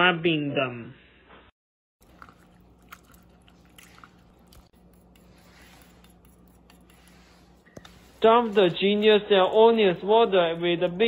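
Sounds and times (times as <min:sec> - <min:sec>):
hands squishing raw meat: 0:02.0 - 0:11.0
steady low hum: 0:02.0 - 0:11.0.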